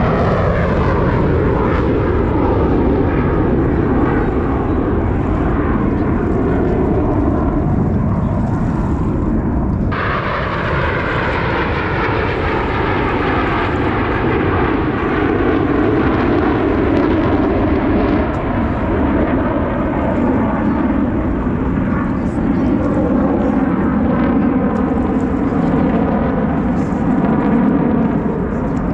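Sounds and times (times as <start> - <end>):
jets roaring overhead: 0.0 - 28.9.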